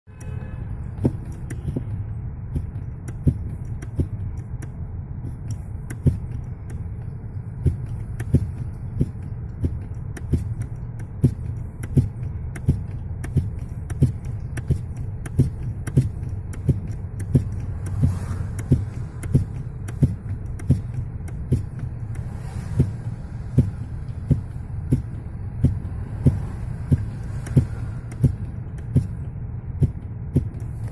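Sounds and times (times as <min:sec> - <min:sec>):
brake booster knocking: 0:00.1 - 0:30.9
car engine humming: 0:00.1 - 0:30.9.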